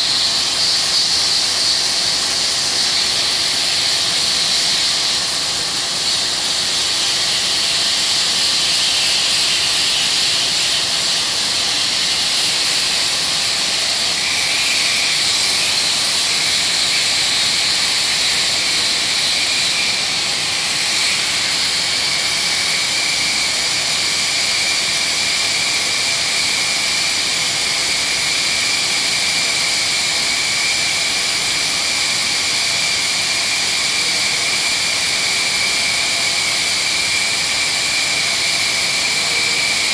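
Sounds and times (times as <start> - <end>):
dry sanding hiss: 0.0 - 39.9.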